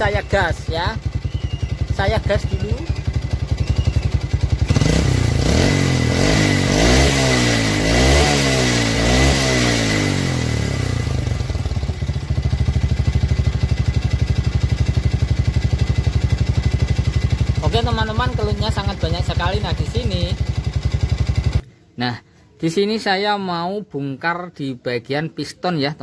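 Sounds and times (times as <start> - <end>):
engine ticking: 0.0 - 8.8, 9.4 - 21.6
motorcycle engine idling and revving: 0.0 - 21.6.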